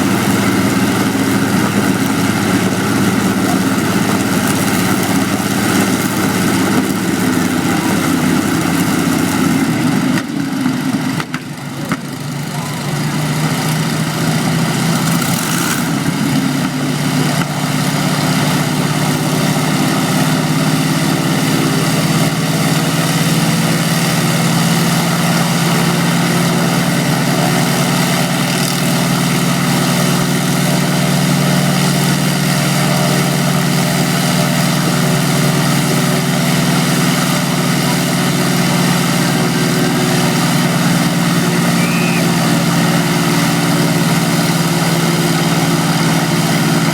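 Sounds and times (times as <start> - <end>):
aircraft engine droning: 0.0 - 11.2, 16.0 - 46.9.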